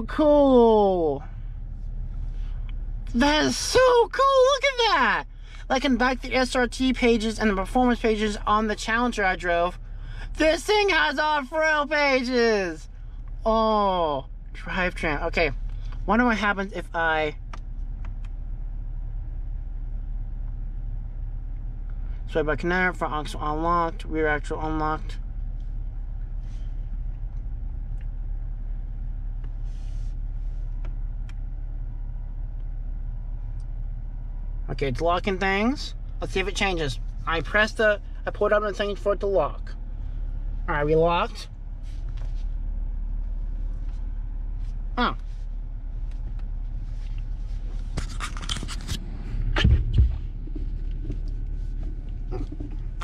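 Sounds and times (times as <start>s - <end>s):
engine idling low rumble: 0.0s - 53.0s.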